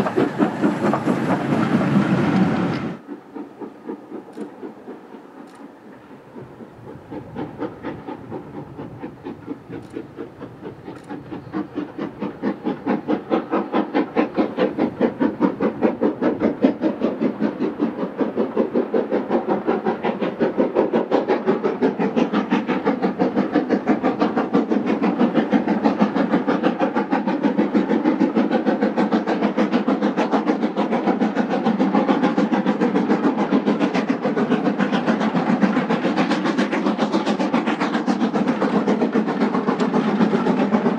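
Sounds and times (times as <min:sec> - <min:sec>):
steam locomotive exhaust beats: 0:00.0 - 0:40.9.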